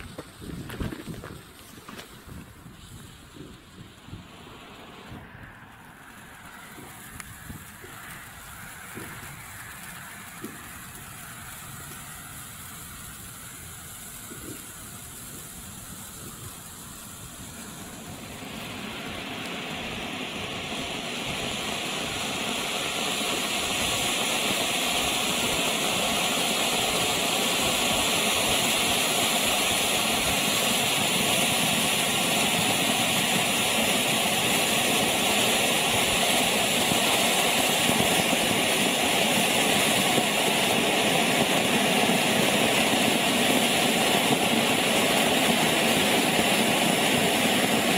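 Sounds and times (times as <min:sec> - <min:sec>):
firework fountain hissing: 0:00.0 - 0:47.9.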